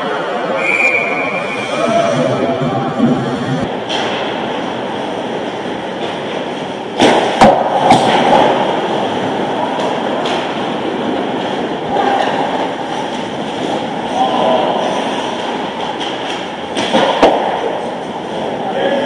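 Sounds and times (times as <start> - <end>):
rushing rink noise: 0.1 - 19.0.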